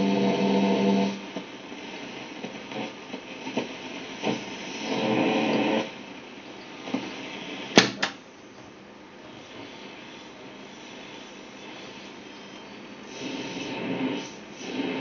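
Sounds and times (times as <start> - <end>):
radio static hiss and crackle: 0.0 - 15.0
radio station snatch: 1.0 - 8.2, 9.2 - 15.0.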